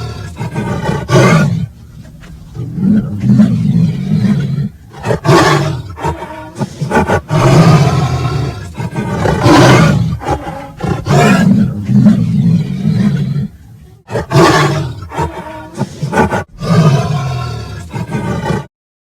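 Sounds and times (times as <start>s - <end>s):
tiger roaring and growling: 0.0s - 18.7s.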